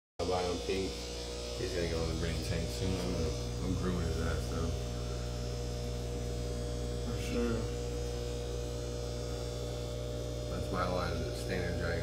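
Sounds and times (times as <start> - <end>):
aquarium air pumps humming: 0.2 - 12.0.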